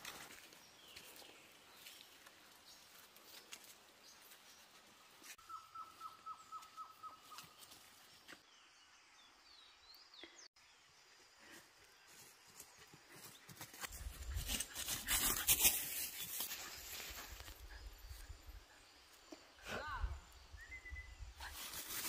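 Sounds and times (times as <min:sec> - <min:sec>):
faint birdsong: 0:00.1 - 0:22.0.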